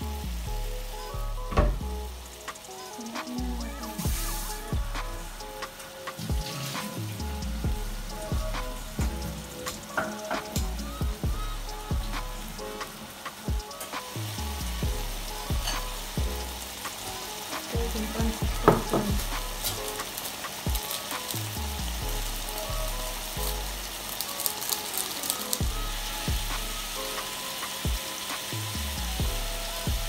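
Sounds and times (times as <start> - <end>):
background music: 0.0 - 30.0
food sizzling in a frying pan: 0.0 - 30.0.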